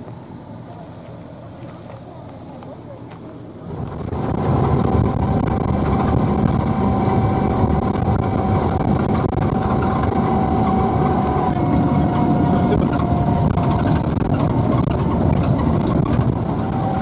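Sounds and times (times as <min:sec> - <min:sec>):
off-road vehicle engine: 0:00.0 - 0:17.0
steady whine: 0:00.0 - 0:17.0.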